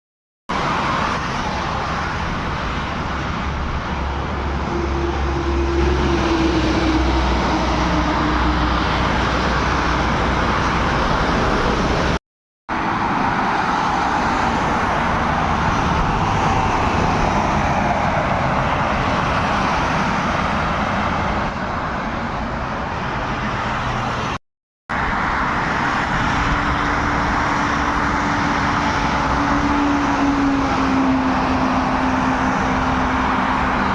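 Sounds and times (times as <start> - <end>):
road traffic with trucks: 0.5 - 33.9.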